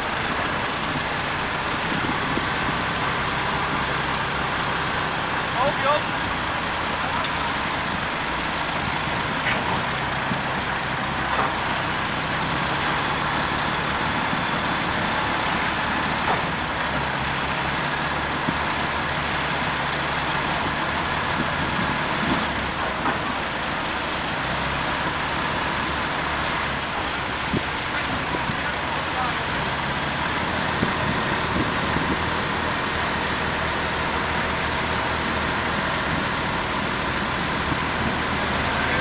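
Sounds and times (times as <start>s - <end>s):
diesel truck engine under load: 0.0s - 39.0s.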